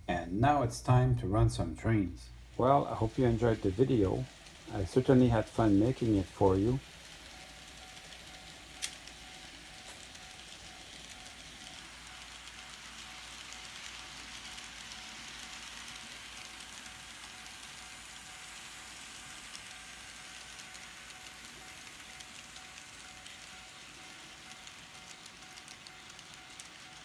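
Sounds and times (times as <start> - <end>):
model train motor whir: 2.4 - 27.0
wheels clicking over rail: 2.6 - 27.0.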